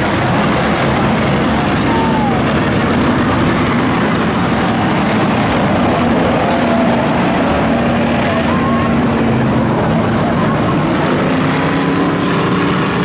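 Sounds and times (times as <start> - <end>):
many race car engines: 0.0 - 13.0.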